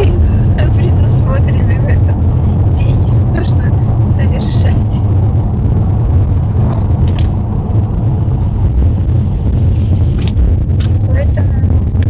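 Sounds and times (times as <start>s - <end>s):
car cabin engine and tyre rumble: 0.0s - 12.0s.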